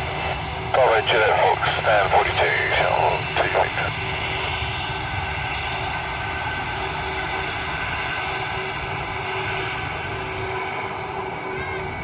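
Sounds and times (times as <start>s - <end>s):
jet airliner engines running: 0.0s - 12.0s.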